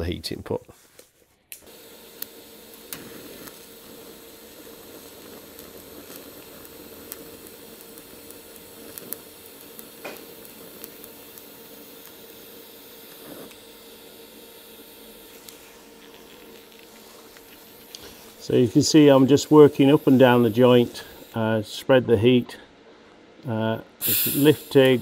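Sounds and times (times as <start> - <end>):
welding arc hissing: 1.6 - 21.6, 24.0 - 25.0.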